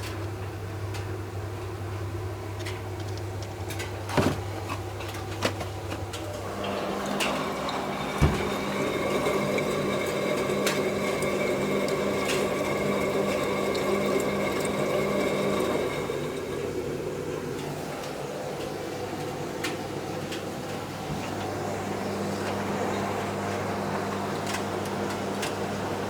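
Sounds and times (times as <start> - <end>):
appliance humming: 0.0 - 26.0.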